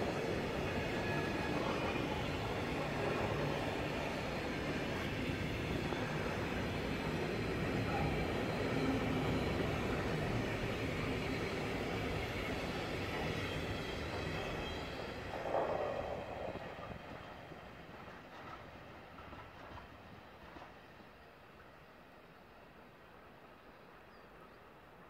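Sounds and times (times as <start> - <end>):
freight train wheels rumbling on rails: 0.0 - 25.0.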